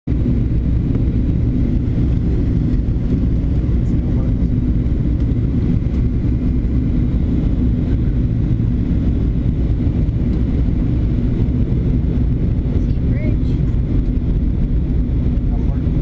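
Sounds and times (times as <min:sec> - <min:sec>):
faint cabin hum: 0:00.1 - 0:16.0
jet engine and airflow drone: 0:00.1 - 0:16.0.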